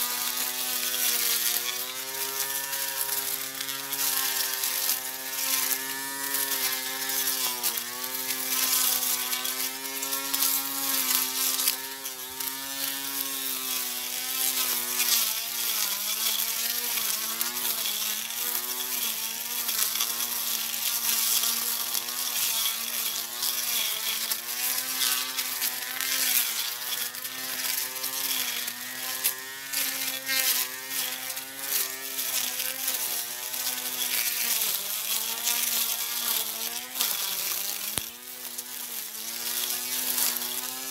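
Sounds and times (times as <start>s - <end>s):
electric grass cutter motor whining: 0.0s - 40.9s.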